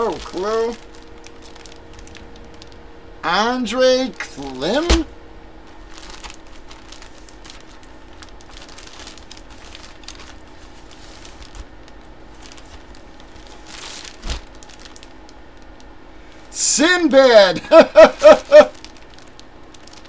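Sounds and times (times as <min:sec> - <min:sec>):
plastic bag crinkling: 0:00.0 - 0:02.8, 0:04.1 - 0:05.0, 0:05.6 - 0:16.5, 0:18.0 - 0:20.0.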